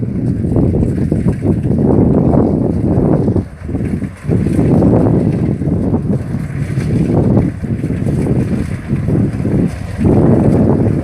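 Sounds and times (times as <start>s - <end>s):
combine harvester rumble: 0.0s - 11.0s
wind buffeting microphone: 0.0s - 11.0s.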